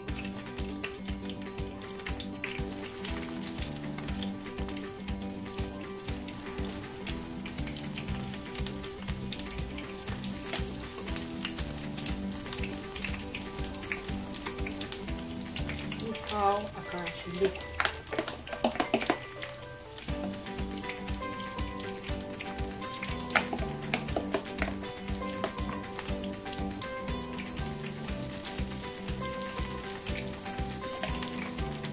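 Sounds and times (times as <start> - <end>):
batter sizzling in hot oil: 0.0 - 31.9
soft background music: 0.0 - 31.9.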